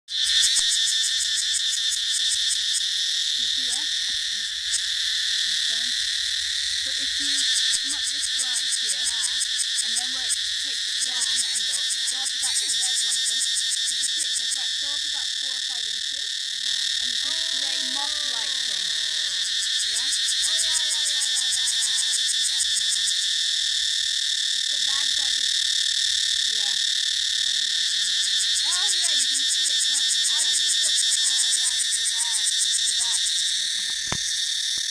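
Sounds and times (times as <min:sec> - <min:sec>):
cicada buzzing: 0:00.1 - 0:34.9.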